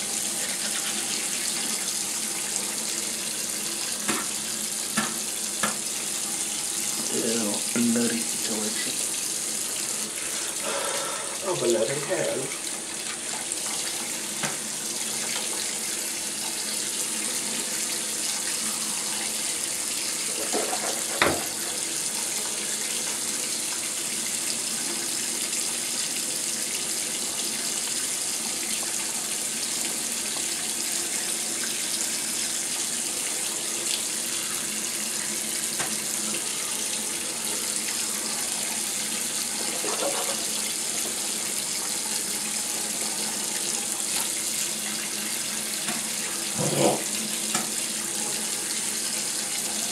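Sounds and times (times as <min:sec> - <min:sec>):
faucet running into sink: 0:00.0 - 0:49.9.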